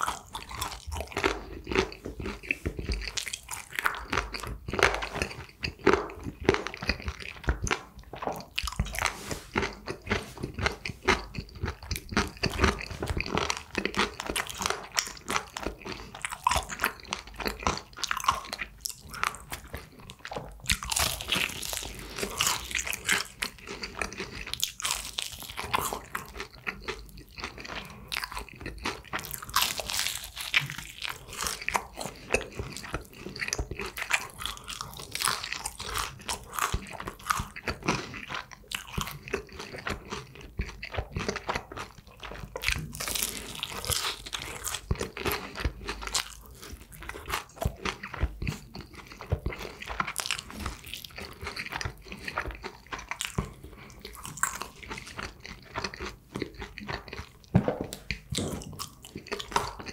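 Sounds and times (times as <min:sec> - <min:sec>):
crunching fried chicken: 0:00.0 - 0:59.9
wet chewing: 0:00.0 - 0:59.9.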